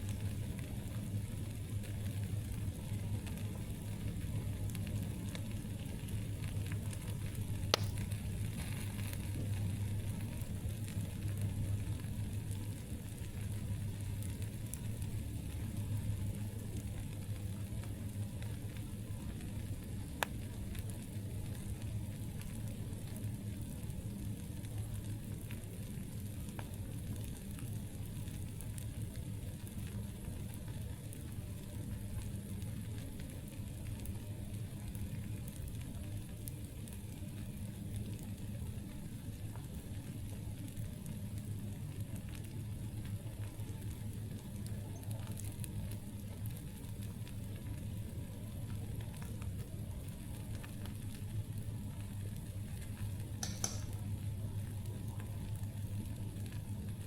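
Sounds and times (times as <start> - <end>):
campfire crackling: 0.0 - 57.0
fire popping: 0.0 - 57.0.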